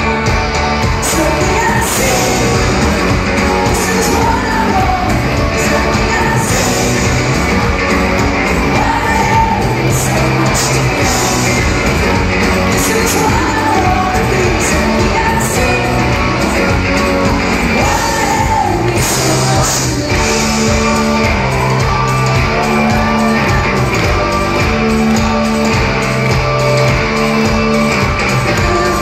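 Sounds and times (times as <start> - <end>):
audience shouting and singing along: 0.0 - 29.0
live rock band playing: 0.0 - 29.0
woman singing lead vocal: 1.0 - 24.8, 28.5 - 29.0.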